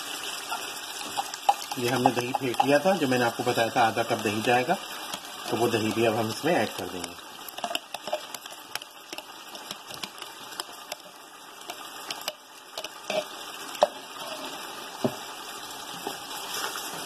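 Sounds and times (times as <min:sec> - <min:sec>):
food sizzling: 0:00.0 - 0:17.0
wooden spoon scraping metal pot: 0:00.5 - 0:14.6.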